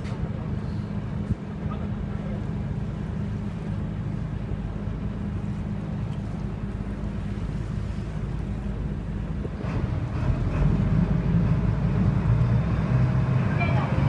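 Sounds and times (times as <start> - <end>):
ferry engine droning: 0.0 - 14.0
water rushing along hull: 0.0 - 14.0.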